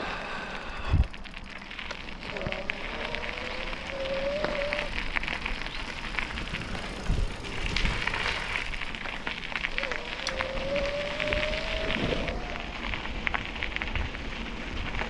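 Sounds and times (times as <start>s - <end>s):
bicycle tyres crunching on gravel: 0.0s - 15.0s.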